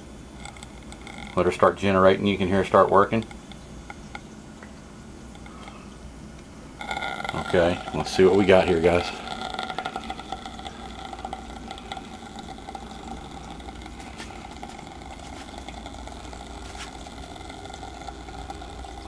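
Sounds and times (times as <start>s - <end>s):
low background hum: 0.0s - 19.0s
small fan whirring: 0.0s - 19.0s.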